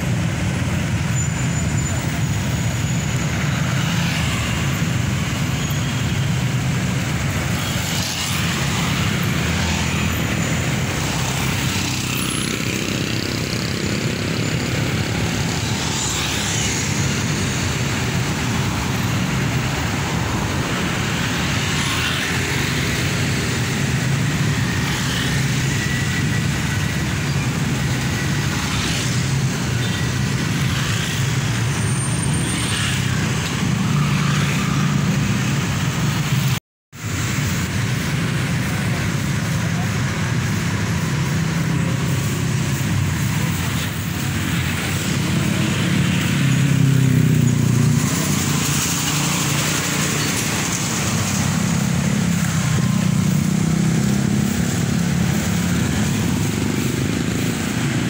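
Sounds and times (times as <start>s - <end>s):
bus engine: 0.0s - 58.0s
motorcycles passing: 0.0s - 58.0s
tyre and road noise: 0.0s - 58.0s.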